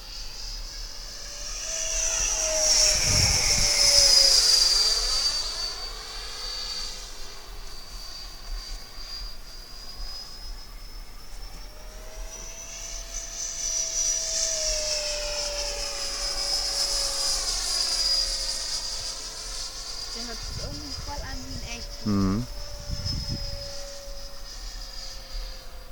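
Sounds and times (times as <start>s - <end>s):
model jet whine: 0.0s - 25.9s.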